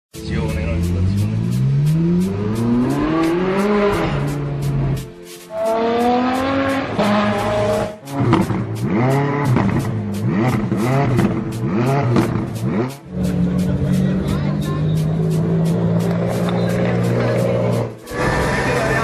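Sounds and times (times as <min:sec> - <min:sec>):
music with steady beat: 0:00.2 - 0:19.0
sports car engine revving: 0:00.6 - 0:19.0.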